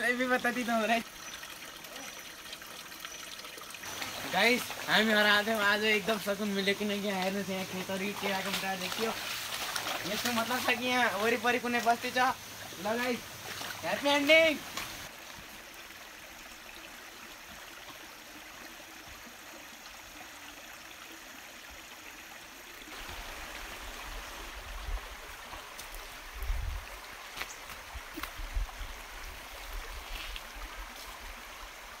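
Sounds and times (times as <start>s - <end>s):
stream rushing: 3.4s - 32.0s.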